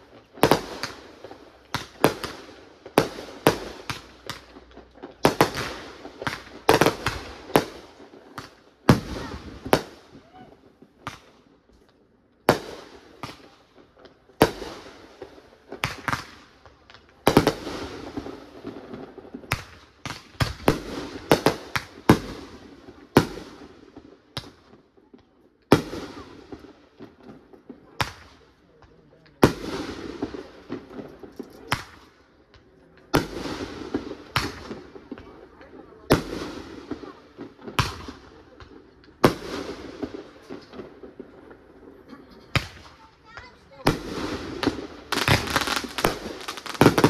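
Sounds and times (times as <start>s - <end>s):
fireworks bangs: 0.0s - 11.7s, 12.4s - 47.0s.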